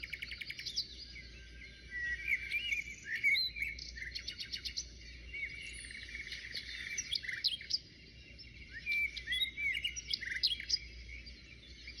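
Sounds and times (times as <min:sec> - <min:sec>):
small birds chirping and singing: 0:00.0 - 0:12.0.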